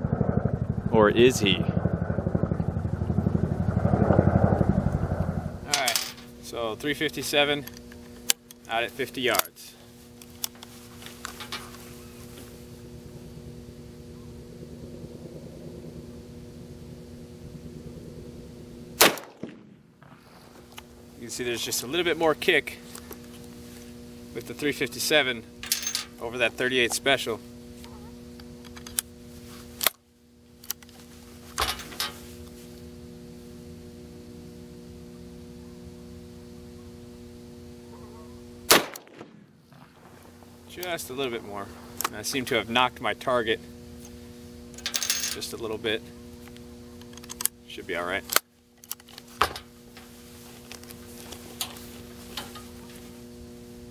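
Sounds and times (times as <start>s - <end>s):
low engine hum: 0.0s - 9.1s, 9.7s - 26.8s, 27.4s - 47.6s.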